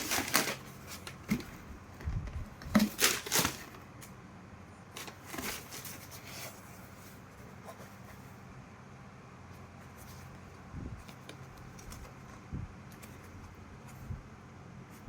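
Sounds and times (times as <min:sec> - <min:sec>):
rustling packaging handling: 0:00.0 - 0:04.2, 0:04.9 - 0:08.4, 0:09.6 - 0:14.2.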